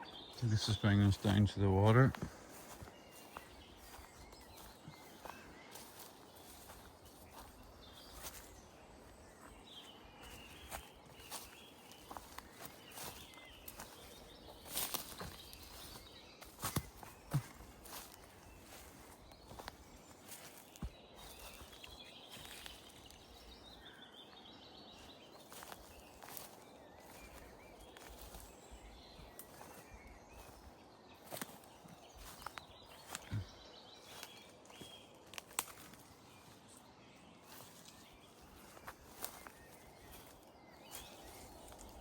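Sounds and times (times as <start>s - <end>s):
faint bird chirps: 0.0s - 36.8s, 37.4s - 42.0s
faint footsteps in woodland: 0.0s - 42.0s.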